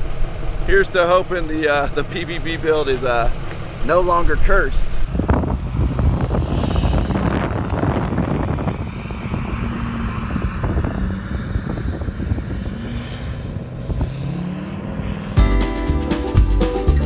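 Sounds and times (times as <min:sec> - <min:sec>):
truck engine rumble: 0:00.0 - 0:17.0.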